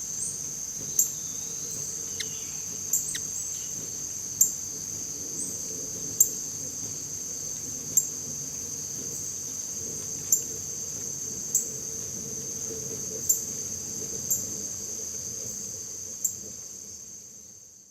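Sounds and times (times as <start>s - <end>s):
insect chorus droning: 0.0s - 17.9s.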